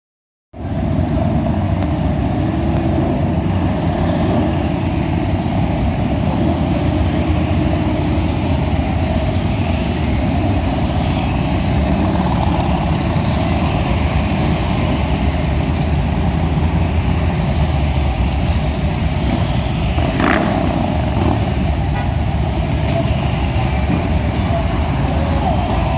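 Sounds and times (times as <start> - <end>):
motorcycle engines rumbling: 0.6 - 25.9.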